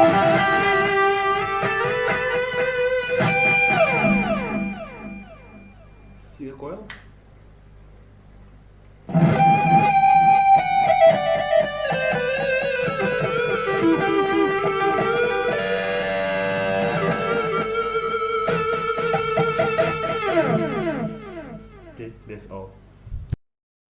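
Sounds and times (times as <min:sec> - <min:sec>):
electric guitar lead line: 0:00.0 - 0:06.4, 0:09.1 - 0:22.2
low amplifier hum: 0:00.0 - 0:23.4.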